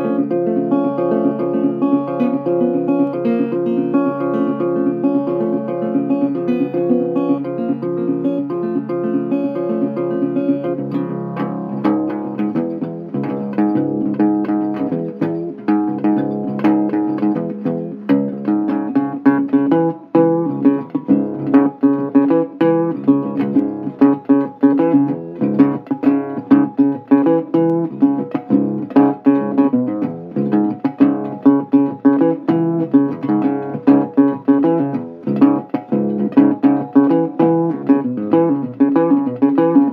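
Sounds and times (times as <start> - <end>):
instrumental guitar music: 0.0 - 39.9.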